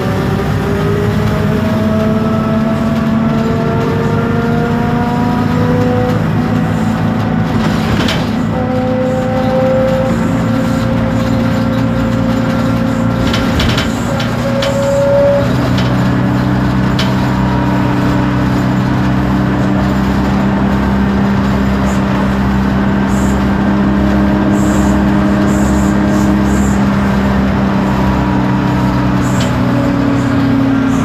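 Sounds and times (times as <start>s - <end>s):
bus diesel engine running: 0.0s - 31.0s.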